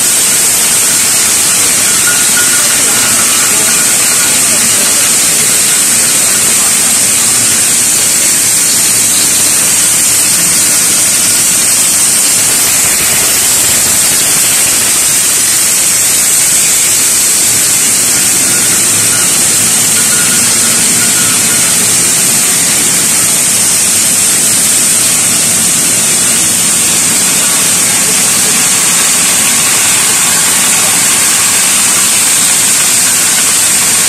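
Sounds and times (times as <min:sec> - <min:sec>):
machinery high-pitched hiss: 0:00.0 - 0:34.0.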